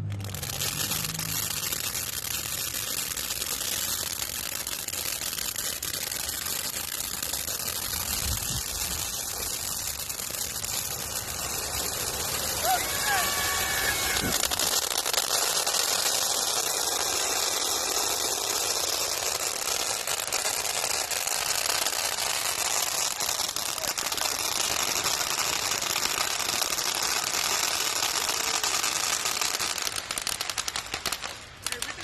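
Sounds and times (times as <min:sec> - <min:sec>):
fireworks fountain hissing and crackling: 0:00.0 - 0:32.0.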